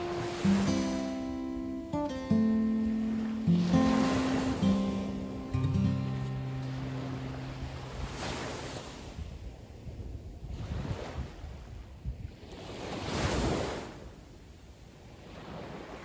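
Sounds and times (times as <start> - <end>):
waves breaking on beach: 0.0 - 16.0.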